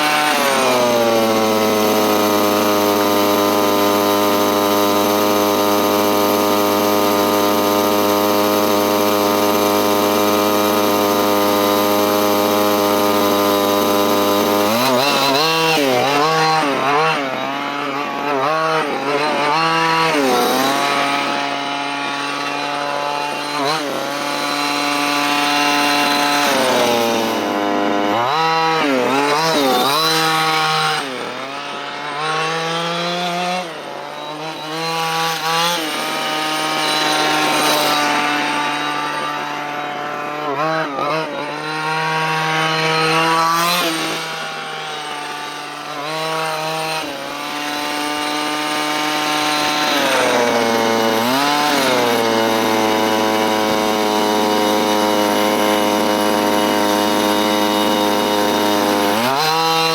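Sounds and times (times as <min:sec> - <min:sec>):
small two-stroke engine revving: 0:00.0 - 0:59.9.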